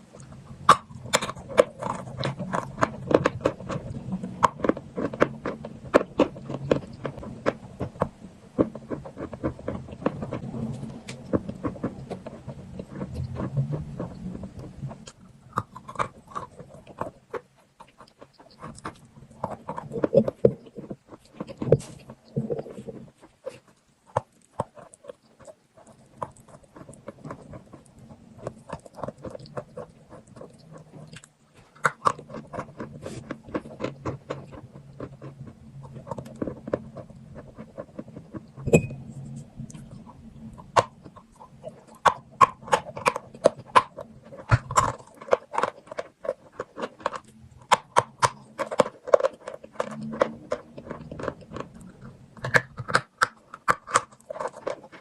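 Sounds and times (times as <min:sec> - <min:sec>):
chalk being chewed: 0:00.1 - 0:55.0.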